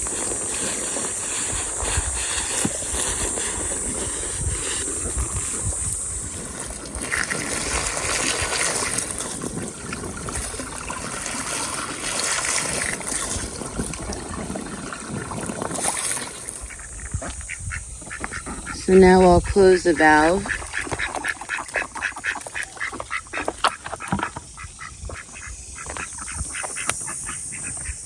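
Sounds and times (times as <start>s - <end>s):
water running and trickling: 0.0s - 28.0s.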